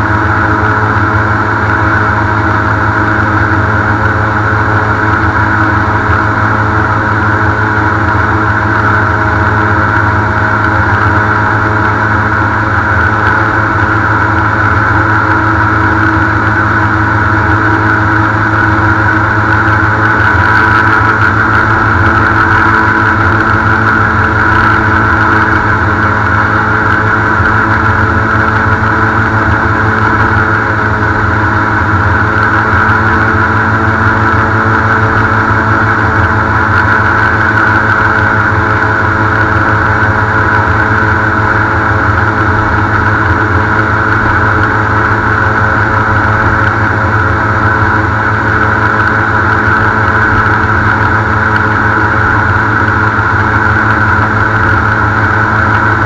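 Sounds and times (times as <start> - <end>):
airboat engine drone: 0.0 - 56.0.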